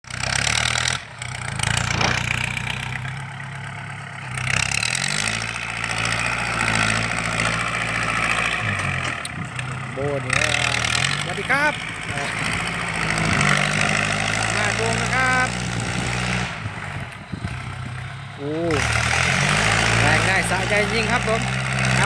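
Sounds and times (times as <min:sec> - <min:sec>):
engine revving through open exhaust: 0:00.0 - 0:22.0.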